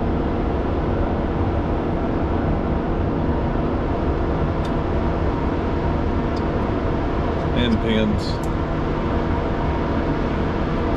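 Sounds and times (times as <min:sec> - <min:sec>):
engine running: 0:00.0 - 0:10.9.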